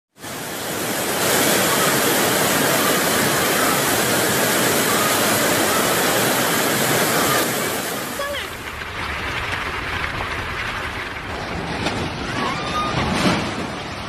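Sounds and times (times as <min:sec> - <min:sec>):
floodwater rushing: 0:00.1 - 0:14.0.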